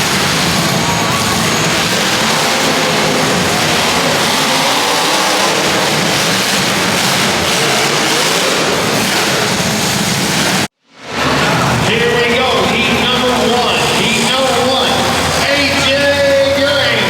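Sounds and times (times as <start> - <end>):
car engines running and revving: 0.0 - 17.0.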